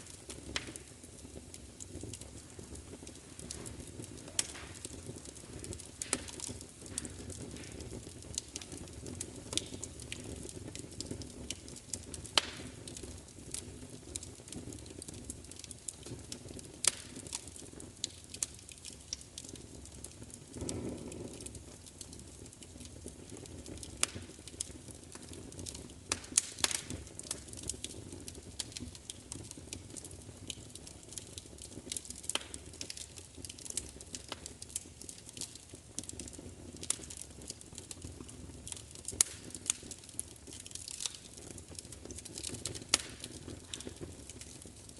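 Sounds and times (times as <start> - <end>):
fire low rumble: 0.0 - 44.9
wood fire crackling and popping: 0.0 - 44.9.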